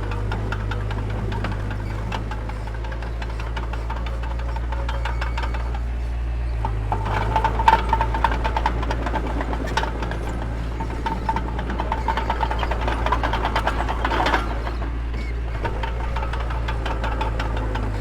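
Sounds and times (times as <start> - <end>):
diesel engine running: 0.0 - 18.0
metallic clanks and rattles: 0.0 - 18.0.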